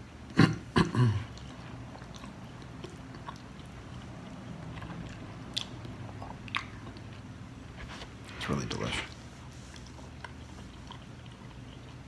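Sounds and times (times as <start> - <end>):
man chewing food: 0.3 - 7.8, 9.2 - 12.0.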